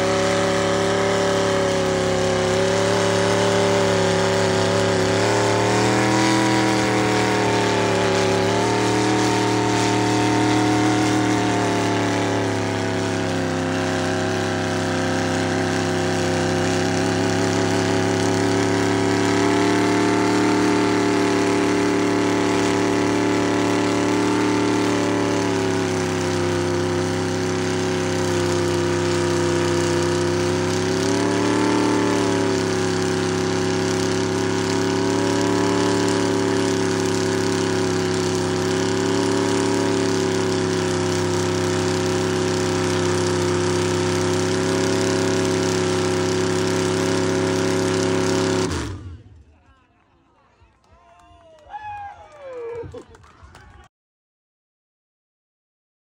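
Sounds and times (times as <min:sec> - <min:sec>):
truck engine revving: 0:00.0 - 0:49.4.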